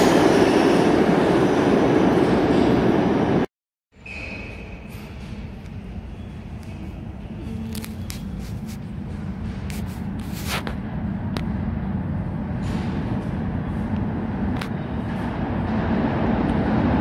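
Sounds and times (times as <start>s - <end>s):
subway train rumble: 0.0s - 3.5s, 4.3s - 17.0s.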